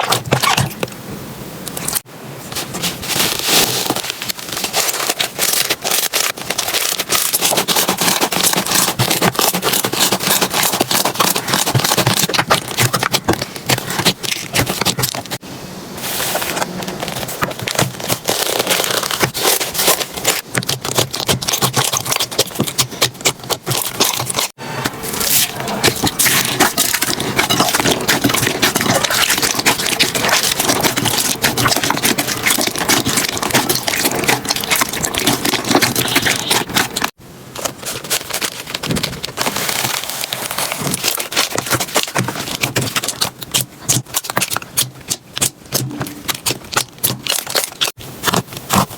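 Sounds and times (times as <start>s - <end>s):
slime squeezed crackling: 2.6s - 15.4s, 16.9s - 48.9s.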